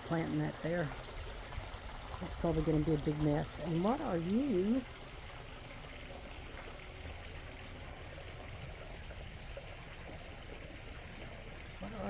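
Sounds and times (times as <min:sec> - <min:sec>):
water trickling over waterfall: 0:00.0 - 0:12.0.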